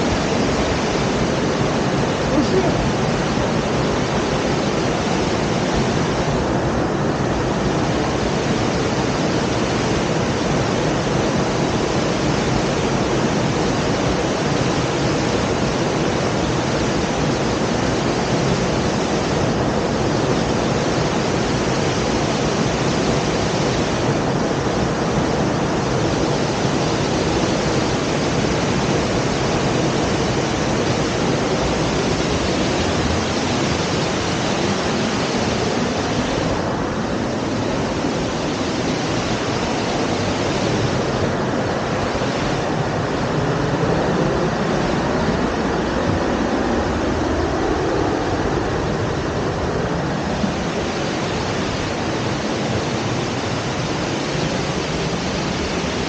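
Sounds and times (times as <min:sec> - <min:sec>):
waterfall roar: 0:00.0 - 0:56.0.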